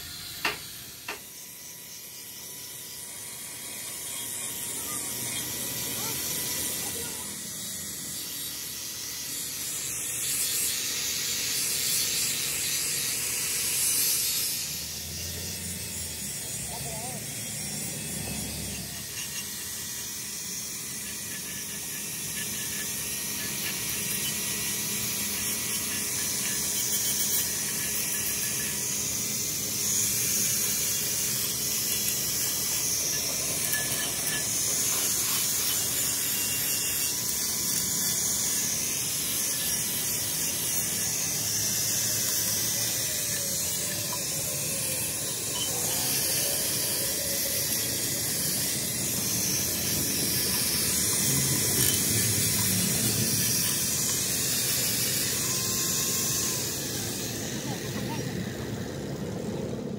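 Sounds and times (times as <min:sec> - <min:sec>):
angle grinder grinding metal: 0:00.0 - 0:59.9.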